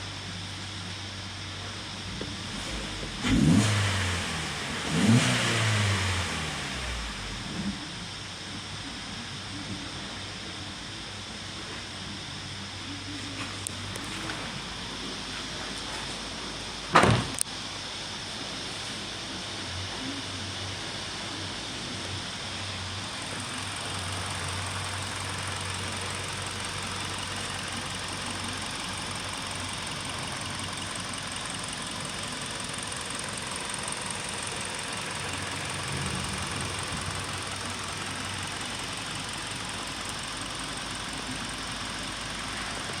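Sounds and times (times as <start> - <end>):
car engine idling: 0.0 - 17.0, 20.8 - 43.0.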